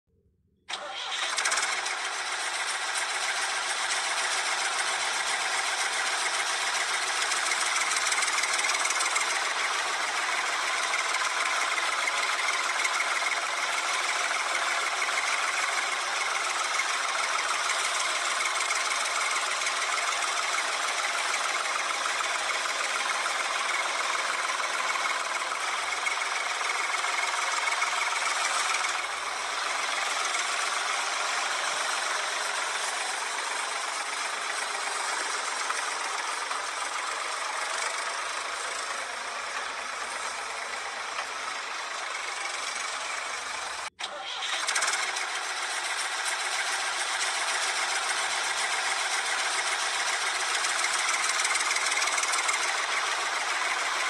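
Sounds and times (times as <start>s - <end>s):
motor running with rattling buzz: 0.7s - 54.0s.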